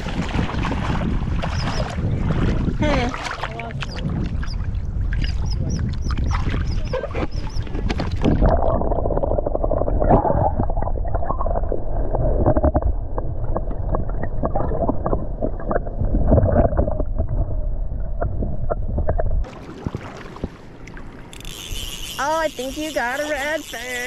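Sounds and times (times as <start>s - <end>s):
muffled underwater water sloshing: 0.0s - 21.4s.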